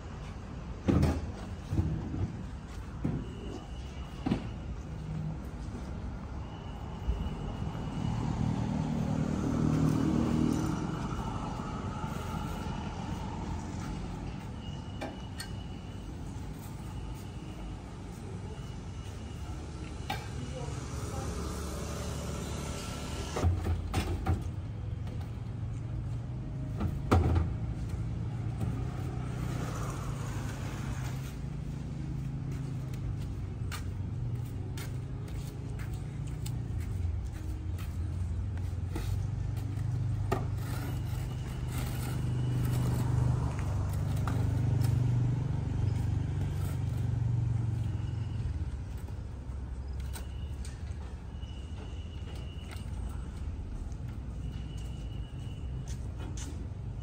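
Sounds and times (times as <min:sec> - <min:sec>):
vehicle engine rumbling: 0:04.7 - 0:57.0.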